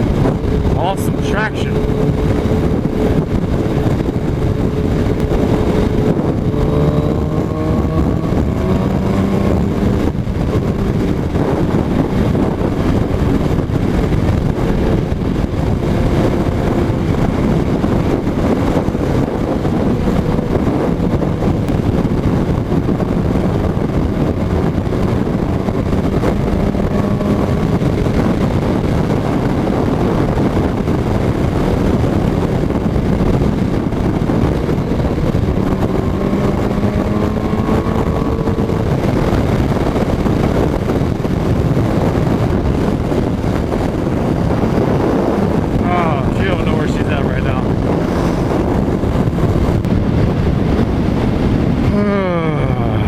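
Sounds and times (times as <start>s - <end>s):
motorcycle engine accelerating: 0.0s - 53.0s
wind rush on microphone: 0.0s - 53.0s.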